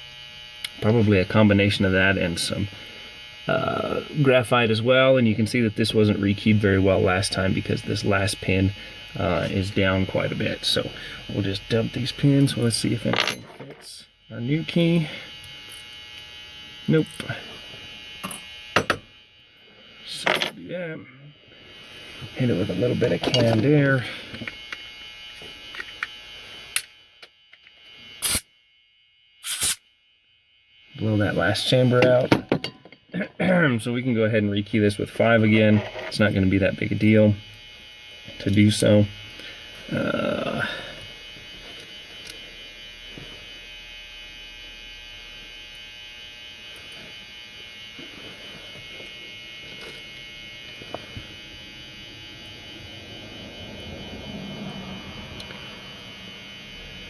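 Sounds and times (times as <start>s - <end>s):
electrical buzz: 0.0s - 57.0s
faint steady hum: 0.0s - 57.0s.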